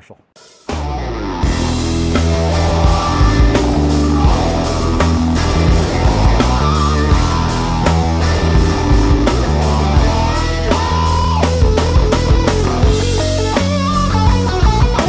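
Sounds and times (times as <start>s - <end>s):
rock music: 0.4s - 15.0s.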